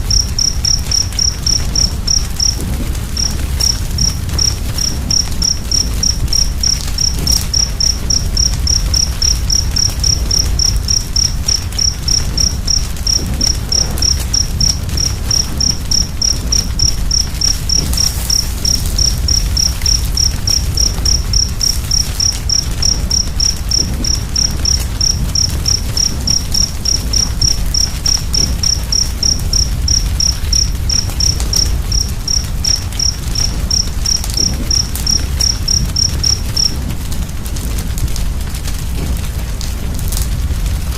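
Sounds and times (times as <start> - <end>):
cricket chirping: 0.0 - 40.9
faint fire crackles: 0.0 - 40.9
low rumble of fire: 0.0 - 40.9.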